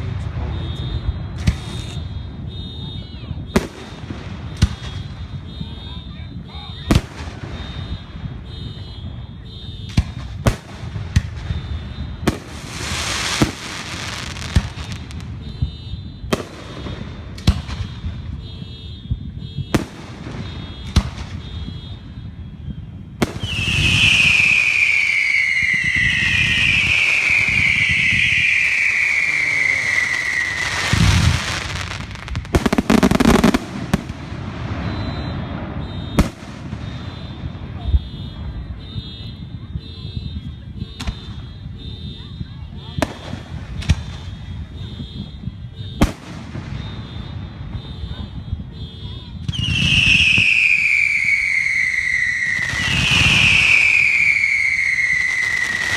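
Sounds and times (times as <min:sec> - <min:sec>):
fireworks hiss and whistles: 0:00.0 - 0:09.2, 0:09.9 - 0:18.6, 0:19.6 - 0:39.0, 0:42.9 - 0:48.4, 0:49.4 - 0:55.9
fireworks bangs: 0:00.0 - 0:55.9.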